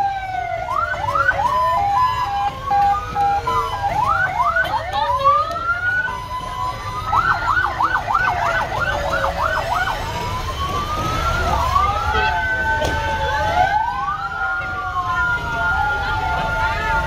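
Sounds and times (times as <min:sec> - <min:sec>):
fire truck sirens wailing: 0:00.0 - 0:17.0.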